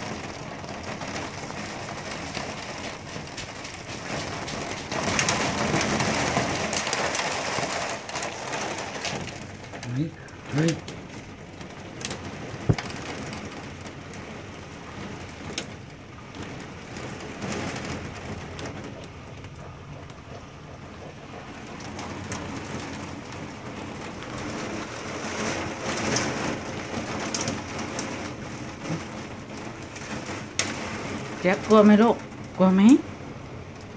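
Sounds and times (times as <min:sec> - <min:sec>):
hailstones tapping: 0:00.0 - 0:33.9
heavy rain on deck and window: 0:00.0 - 0:33.9.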